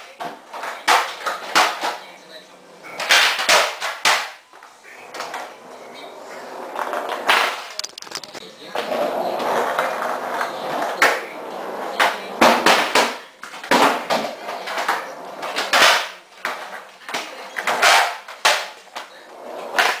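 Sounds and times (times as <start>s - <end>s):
skateboard wheels rolling: 2.9s - 7.8s, 8.7s - 20.0s.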